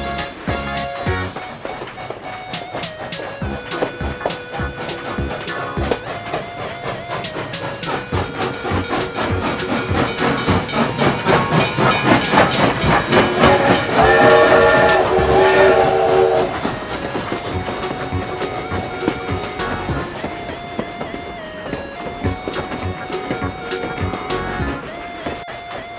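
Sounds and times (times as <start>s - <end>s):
multi-note steam whistle: 0.0s - 25.9s
toy train chuffing with steam hiss: 0.0s - 25.9s.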